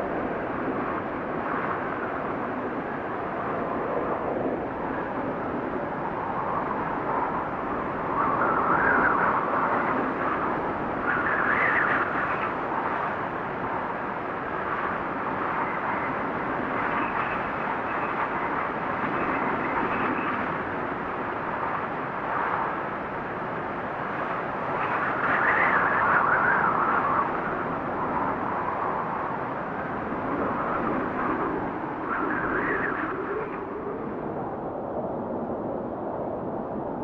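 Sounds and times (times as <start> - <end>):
blizzard wind gusting: 0.0 - 37.0.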